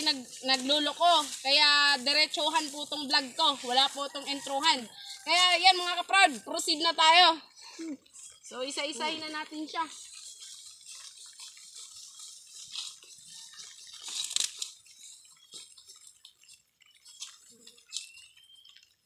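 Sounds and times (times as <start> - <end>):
footsteps crunching grass: 0.0 - 6.8, 8.0 - 19.0.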